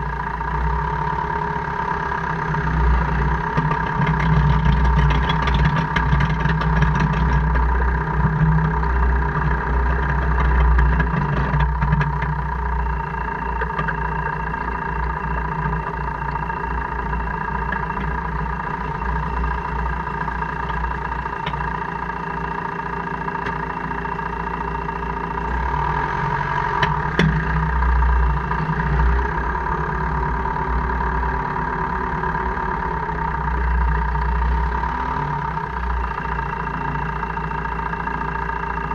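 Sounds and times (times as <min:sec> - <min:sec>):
car engine low rumble: 0:00.0 - 0:38.9
drivetrain whine: 0:00.0 - 0:38.9.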